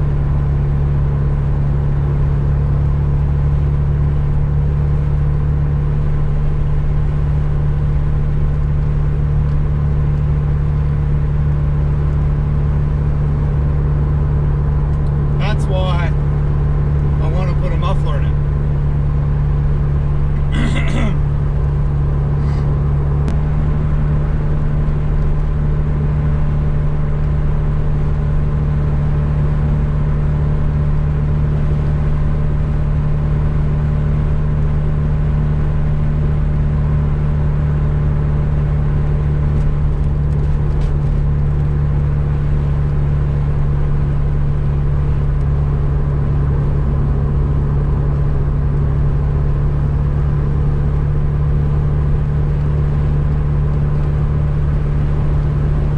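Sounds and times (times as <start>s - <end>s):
car engine droning steadily: 0.0s - 55.9s.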